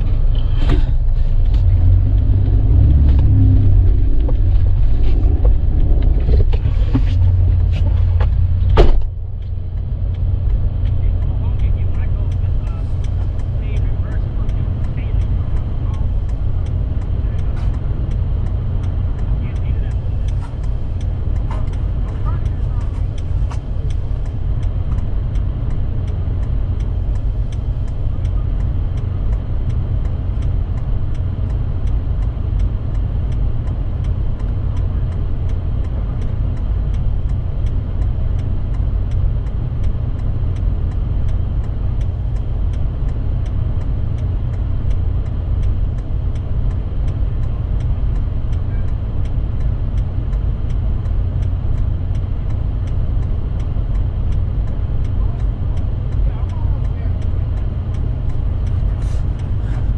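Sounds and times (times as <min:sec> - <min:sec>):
faint even ticking: 0:00.0 - 0:59.9
vehicle engine rumbling: 0:00.0 - 0:59.9.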